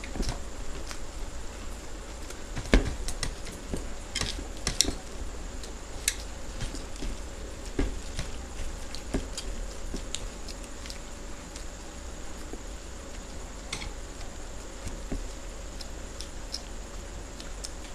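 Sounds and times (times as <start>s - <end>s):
crunchy chewing: 0.0s - 17.9s.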